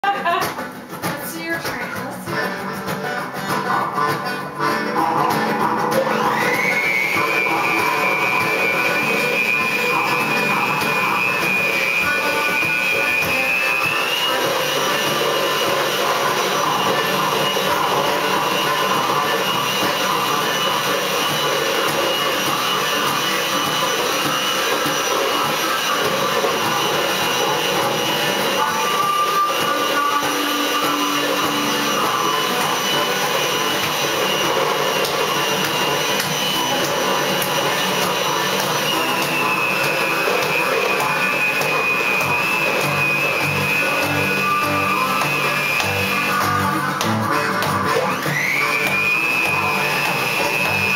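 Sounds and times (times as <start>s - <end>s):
acoustic guitar strumming: 0.0s - 50.9s
amplified blues harmonica: 0.0s - 50.9s.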